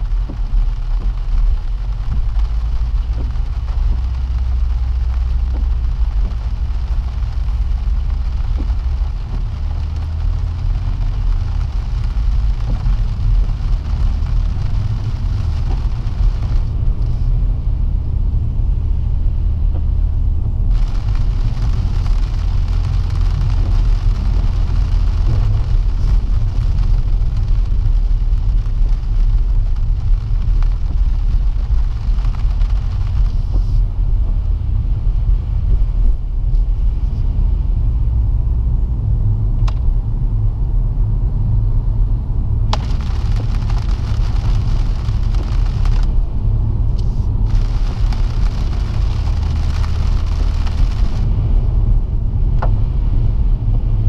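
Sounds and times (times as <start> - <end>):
car engine rumble: 0.0 - 54.0
road noise: 0.0 - 54.0.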